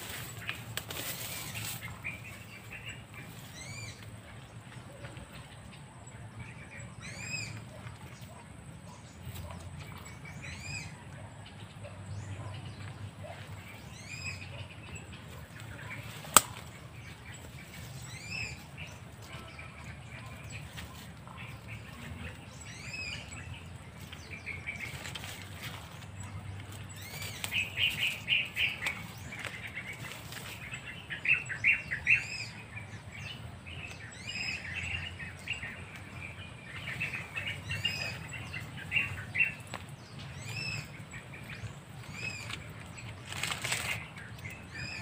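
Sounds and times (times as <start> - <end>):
bird calling: 6.6 - 45.0.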